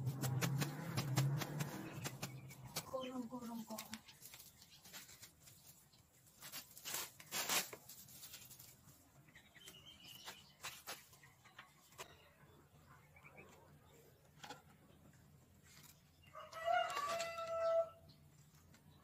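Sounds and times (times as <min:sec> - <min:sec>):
dry grass and leaves rustling: 0:00.0 - 0:12.1, 0:15.6 - 0:18.9.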